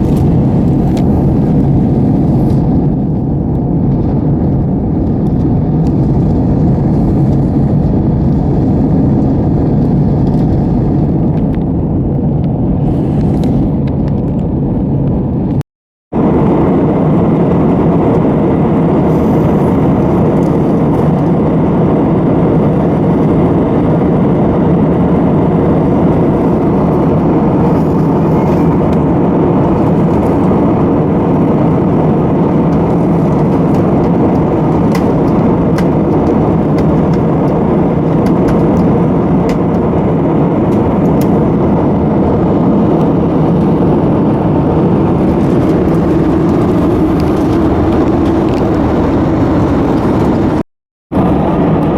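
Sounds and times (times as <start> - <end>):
aircraft cabin engine drone: 0.0 - 51.9.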